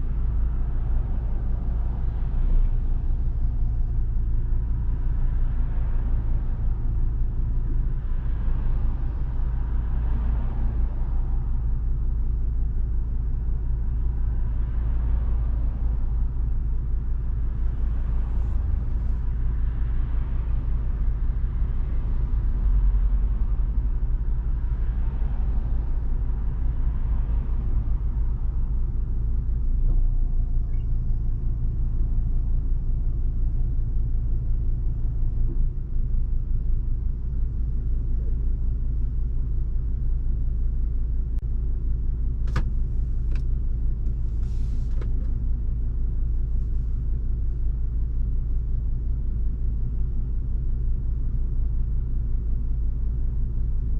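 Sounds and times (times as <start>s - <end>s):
car engine and road drone: 0.0s - 53.9s.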